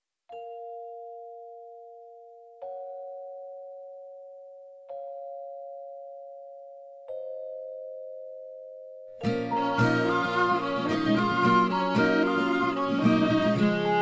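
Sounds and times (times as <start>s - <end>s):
bell-like chords: 0.3s - 13.9s.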